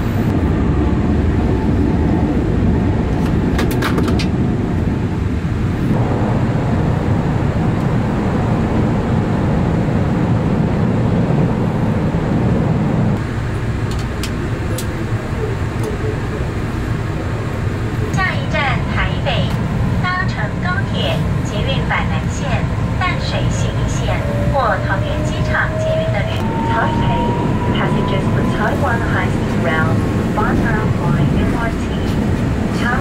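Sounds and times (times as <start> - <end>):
train cabin rumble: 0.0 - 33.0.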